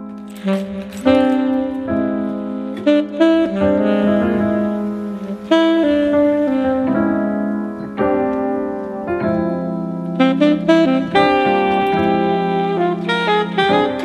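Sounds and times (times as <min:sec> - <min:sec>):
jazzy piano and saxophone music: 0:00.0 - 0:14.0.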